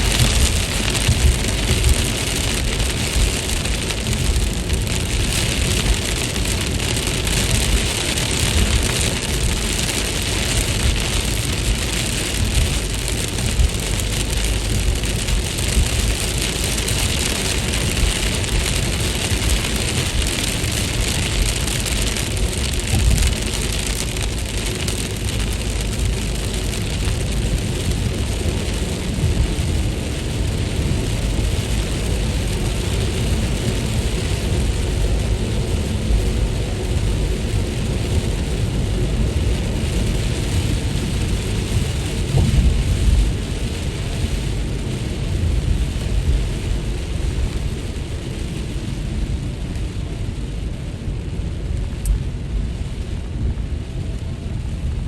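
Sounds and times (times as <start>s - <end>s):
continuous low rumble: 0.0s - 55.0s
rain pattering: 0.0s - 55.0s.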